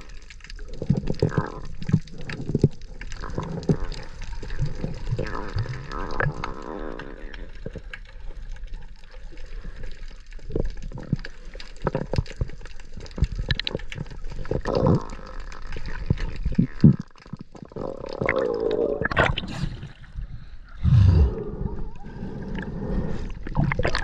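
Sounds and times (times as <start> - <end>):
sea water sloshing and gurgling: 0.0 - 24.0.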